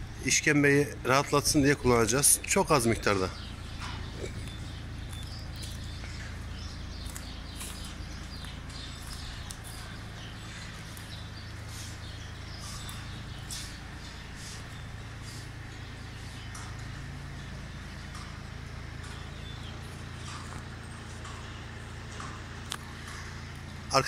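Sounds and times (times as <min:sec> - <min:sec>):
low machine hum: 0:00.0 - 0:24.0
small birds chirping: 0:00.0 - 0:24.0.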